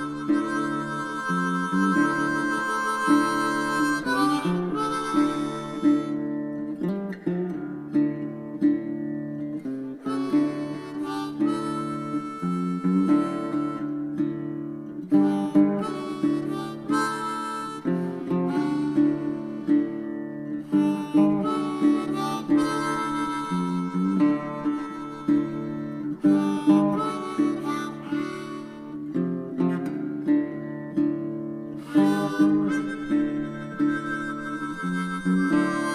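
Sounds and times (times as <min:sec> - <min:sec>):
harmonica playing: 0:00.0 - 0:08.0, 0:09.9 - 0:30.4, 0:31.6 - 0:35.9
plucked acoustic guitar: 0:00.0 - 0:35.9.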